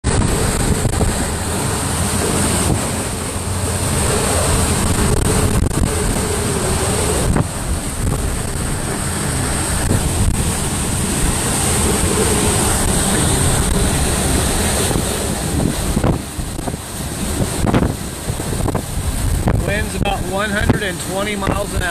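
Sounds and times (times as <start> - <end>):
strong wind buffeting microphone: 0.0 - 21.9.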